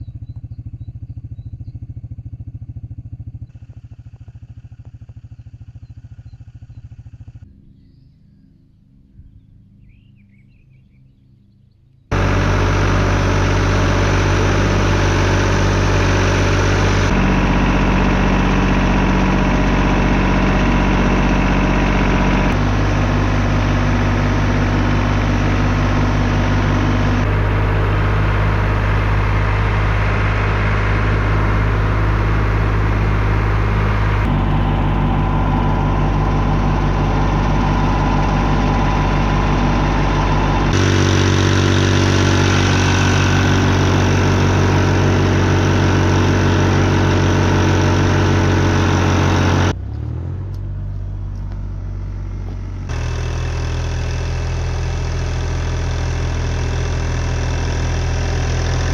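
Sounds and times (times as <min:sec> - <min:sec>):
engine running: 0:00.0 - 0:10.6, 0:11.9 - 0:58.9.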